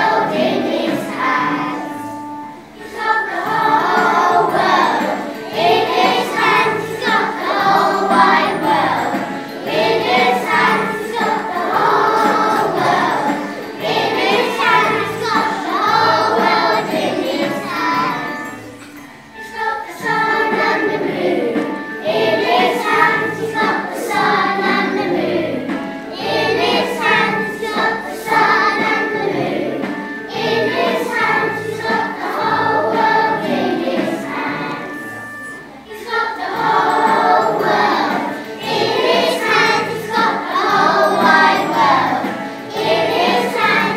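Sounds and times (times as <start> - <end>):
children's choir singing a hymn: 0.0 - 43.9
musical accompaniment: 0.0 - 43.9.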